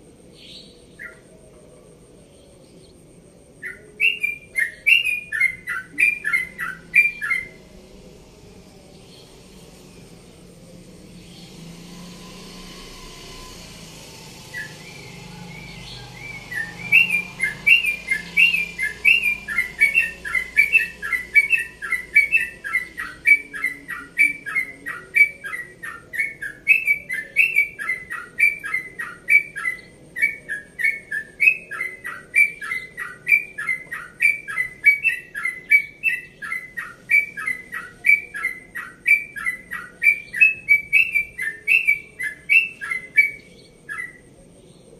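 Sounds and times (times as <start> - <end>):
bulbul singing: 0.0 - 44.9
low steady hum: 0.0 - 44.9.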